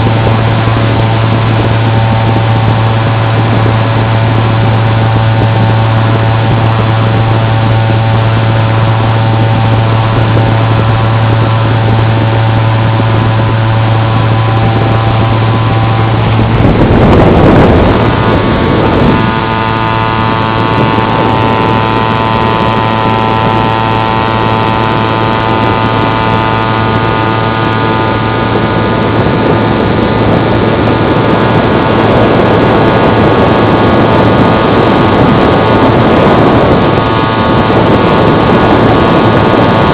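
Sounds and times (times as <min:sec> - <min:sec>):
model aircraft motor droning: 0:00.0 - 0:39.9
wind noise: 0:00.0 - 0:39.9.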